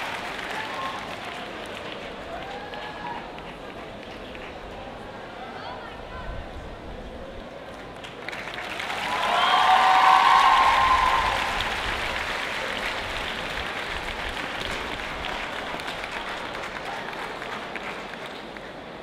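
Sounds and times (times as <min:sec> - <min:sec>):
audience applauding: 0:00.0 - 0:04.6, 0:08.0 - 0:19.0.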